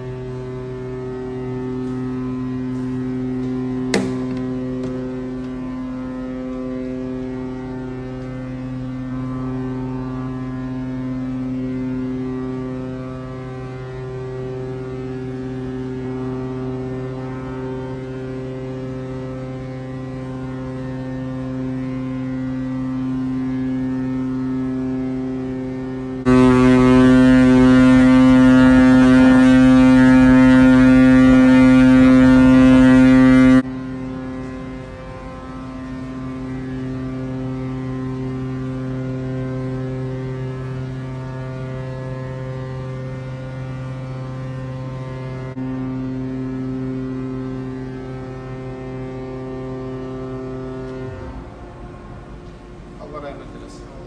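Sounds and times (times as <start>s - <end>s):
ship's horn blast: 0.0s - 54.0s.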